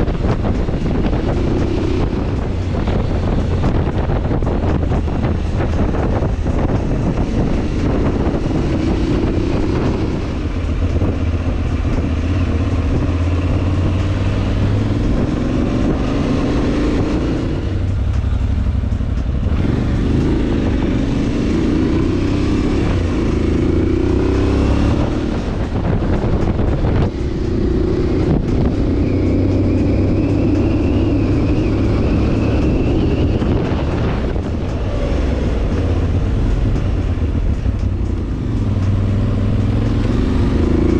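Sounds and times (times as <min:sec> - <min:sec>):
motorcycle engine revving: 0:00.0 - 0:40.9
wind and road noise: 0:00.0 - 0:40.9.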